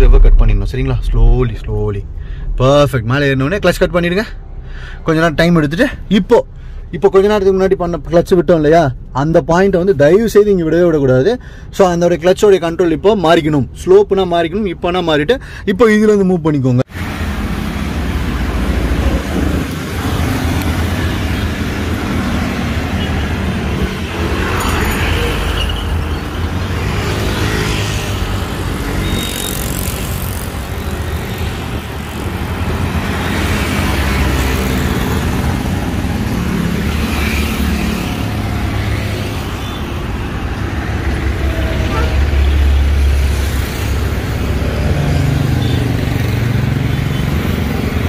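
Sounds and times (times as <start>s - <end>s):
vehicles passing: 0.0s - 11.7s, 16.8s - 48.0s
traffic rumble of engines and tyres: 0.0s - 48.0s.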